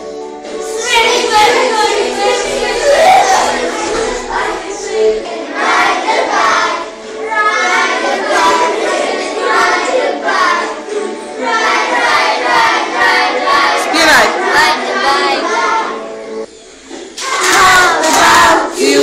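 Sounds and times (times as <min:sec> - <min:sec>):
young children singing: 0:00.0 - 0:19.0.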